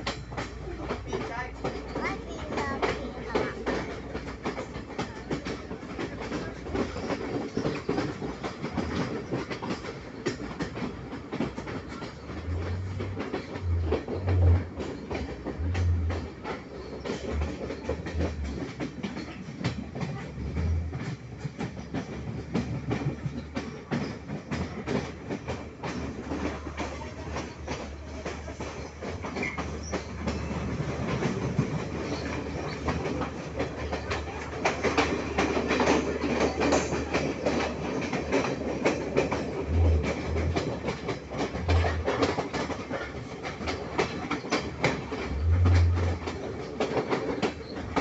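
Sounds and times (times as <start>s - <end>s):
low train rumble: 0.0s - 48.0s
train wheels clicking on rail joints: 0.0s - 48.0s.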